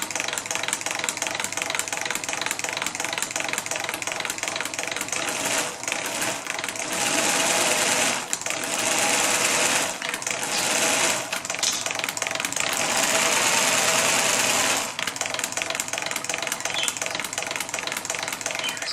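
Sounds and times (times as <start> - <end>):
solenoid engine clicking clatter: 0.0 - 18.9.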